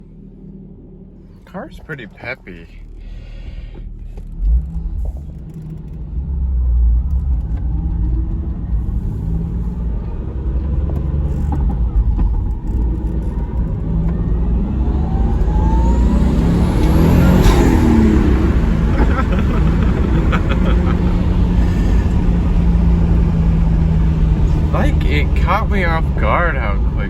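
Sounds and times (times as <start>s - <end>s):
car engine accelerating: 0.0s - 27.0s
rising turbo whine: 0.0s - 27.0s.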